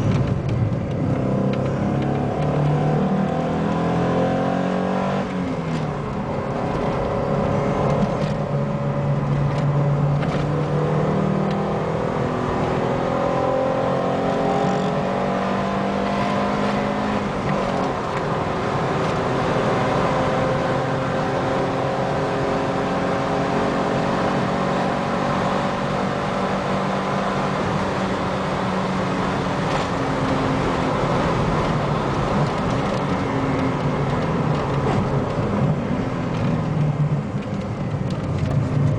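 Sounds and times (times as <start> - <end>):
car engine under load: 0.0 - 38.9
road and wind noise: 0.0 - 38.9.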